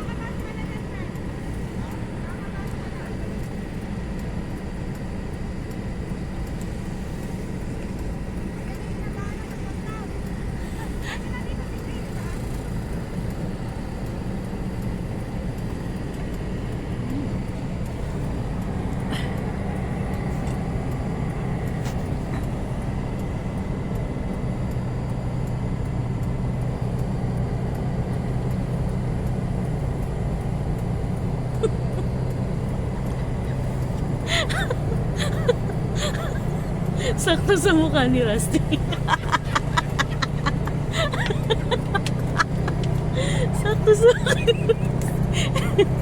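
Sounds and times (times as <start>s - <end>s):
car engine rumbling: 0.0s - 46.0s.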